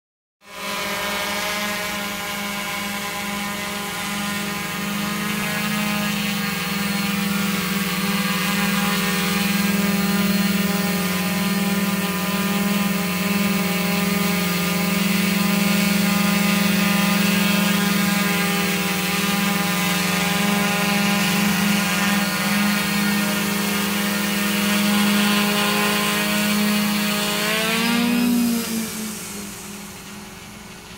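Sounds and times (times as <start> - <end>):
quadcopter motors humming: 0.4 - 30.9.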